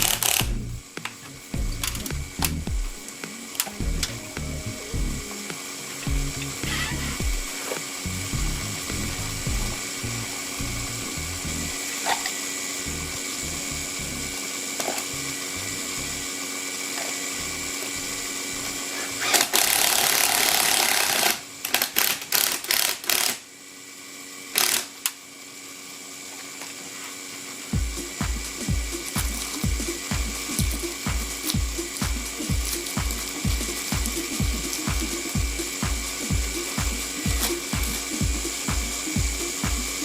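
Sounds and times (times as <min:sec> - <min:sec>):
vacuum pump humming: 0:00.0 - 0:40.0.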